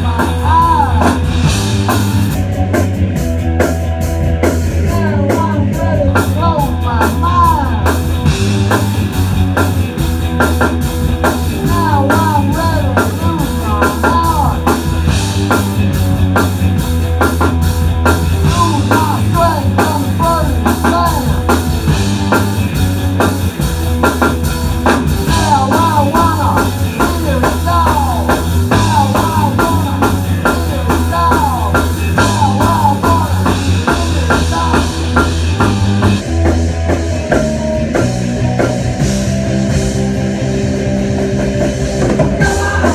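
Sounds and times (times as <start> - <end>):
rock band playing live: 0.0 - 42.9.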